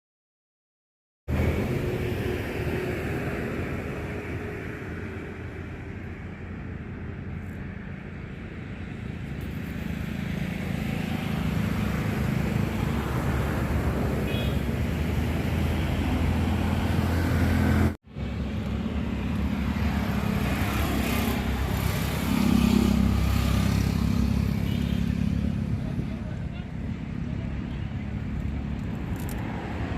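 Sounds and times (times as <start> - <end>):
vehicle engines passing: 1.3 - 29.9.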